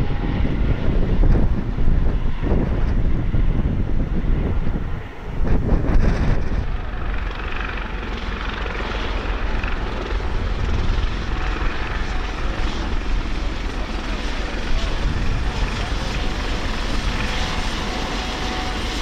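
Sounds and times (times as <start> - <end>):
helicopter flying low: 0.0 - 19.0.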